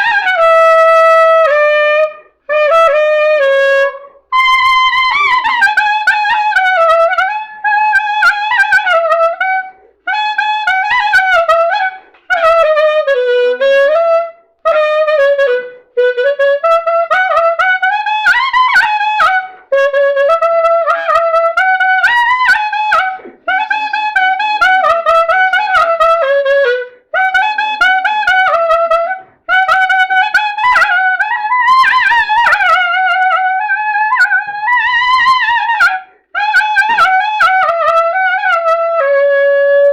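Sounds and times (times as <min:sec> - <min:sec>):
clarinet melody: 0:00.0 - 0:39.9.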